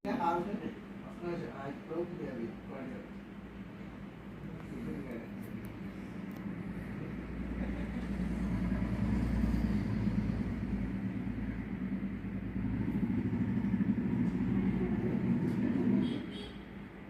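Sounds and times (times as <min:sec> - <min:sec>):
low mechanical hum: 0:00.1 - 0:17.0.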